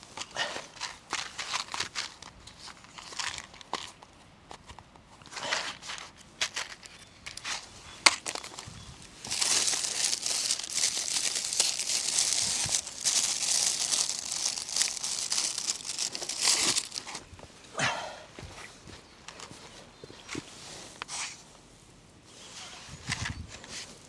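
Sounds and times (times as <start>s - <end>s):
crinkly material crumpling: 0.0s - 17.4s, 19.3s - 24.0s.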